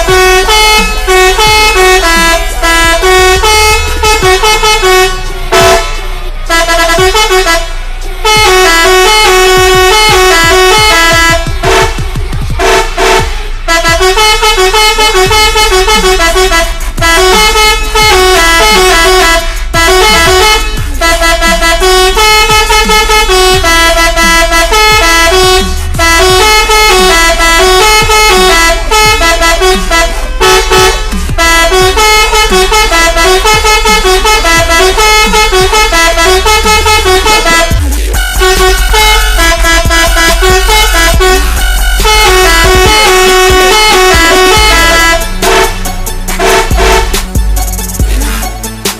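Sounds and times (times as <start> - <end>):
musical horn playing a tune: 0.0 - 48.9.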